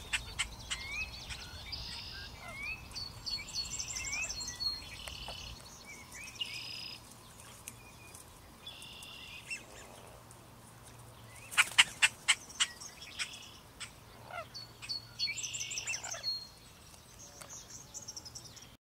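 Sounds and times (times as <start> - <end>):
marsh birds singing: 0.0 - 10.2, 10.9 - 18.8.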